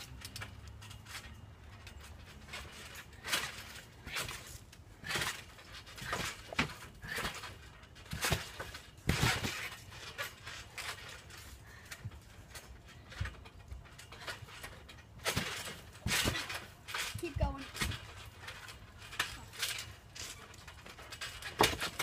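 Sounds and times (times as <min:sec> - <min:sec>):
trampoline springs creaking: 0:00.0 - 0:22.0
trampoline mat thumping: 0:02.4 - 0:22.0.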